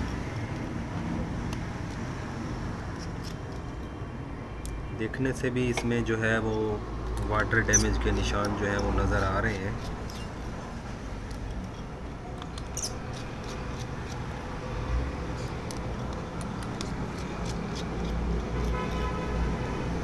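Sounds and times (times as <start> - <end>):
clicks and scratches handling phone: 0.0 - 4.0, 5.6 - 20.0.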